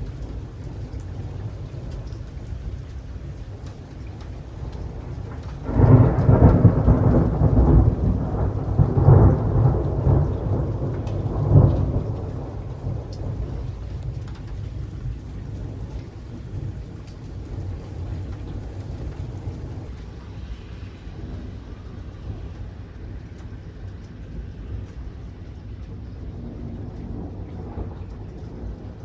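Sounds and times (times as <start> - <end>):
thunder rumbling: 0.0 - 23.1, 25.9 - 29.0
rain hiss: 0.0 - 29.0.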